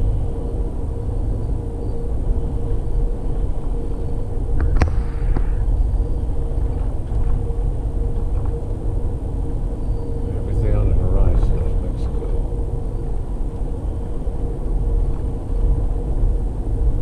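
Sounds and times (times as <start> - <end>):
constant hum: 0.0 - 17.0
train rumbling along track: 0.0 - 17.0.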